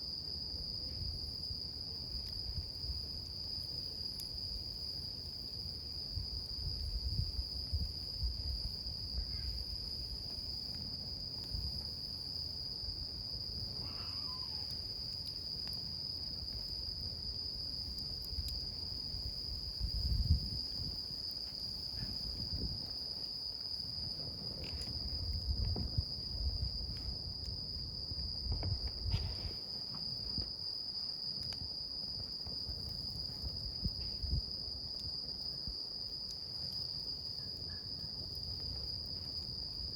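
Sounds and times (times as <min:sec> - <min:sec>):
faint fire crackles: 0:00.0 - 0:39.9
high insect trill: 0:00.0 - 0:39.9
wood fire rumble: 0:00.8 - 0:35.3.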